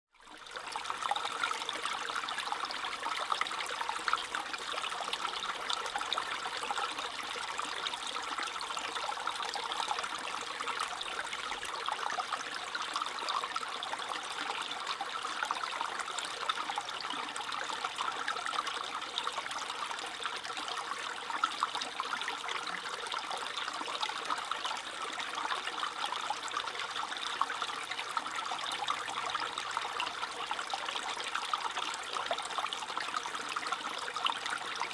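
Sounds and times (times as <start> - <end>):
stream babbling over stones: 0.3 - 34.9.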